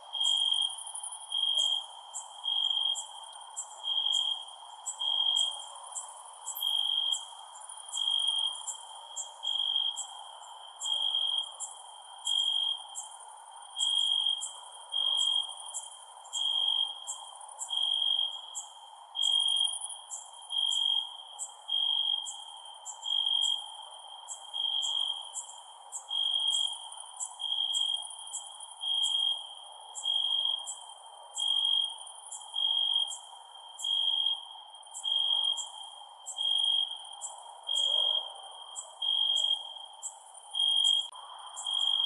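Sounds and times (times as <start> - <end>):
cricket chirping: 0.0 - 42.0
fine ticking insect chorus: 0.0 - 42.0.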